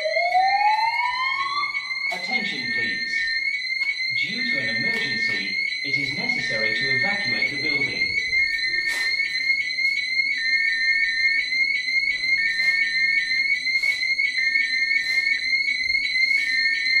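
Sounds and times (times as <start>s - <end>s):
fire alarm pulsing tone: 0.0s - 17.0s.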